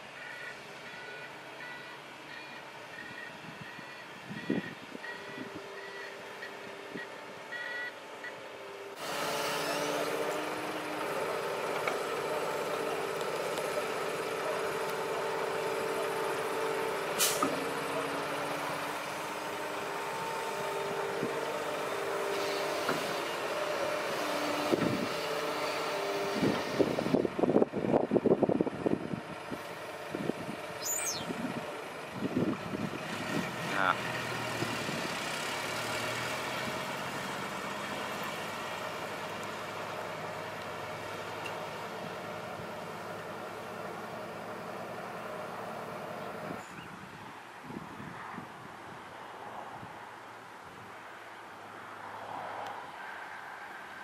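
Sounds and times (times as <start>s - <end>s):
excavator diesel engine running: 0.0s - 46.8s.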